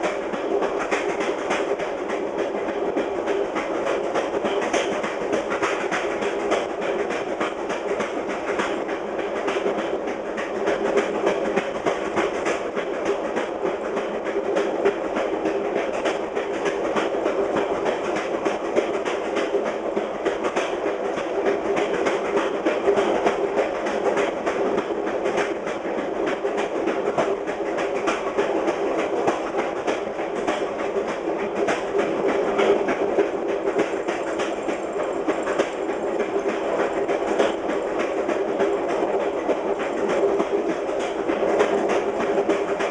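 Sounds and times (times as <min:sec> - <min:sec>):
train rolling rumble: 0:00.0 - 0:42.9
train wheels clacking over rail joints: 0:00.0 - 0:42.9.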